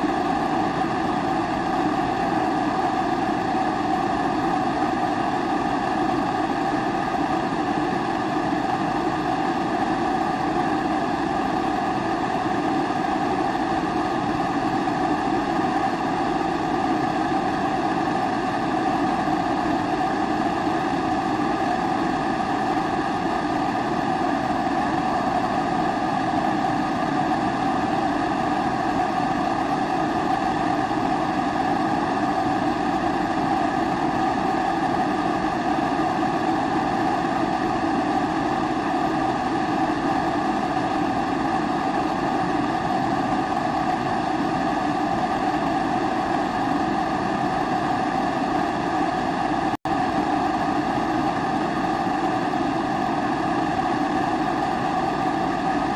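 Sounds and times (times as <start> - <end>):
kerosene stove burner roaring: 0.0 - 55.9.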